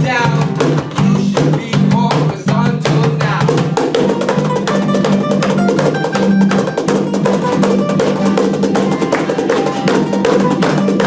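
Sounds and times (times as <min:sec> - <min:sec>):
live band playing: 0:00.0 - 0:02.1, 0:03.5 - 0:11.0
fast percussion beat: 0:00.0 - 0:11.0.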